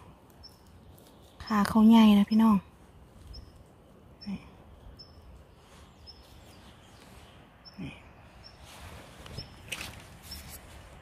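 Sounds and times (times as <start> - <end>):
low outdoor background noise: 0.0 - 11.0
bird chirping: 0.1 - 10.9.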